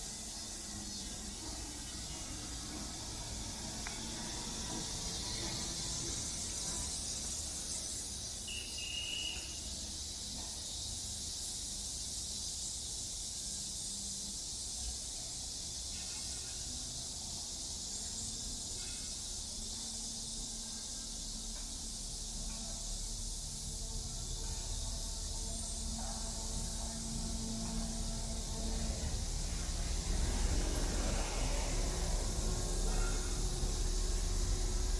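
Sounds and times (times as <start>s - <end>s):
cicadas shrilling: 0.0s - 34.9s.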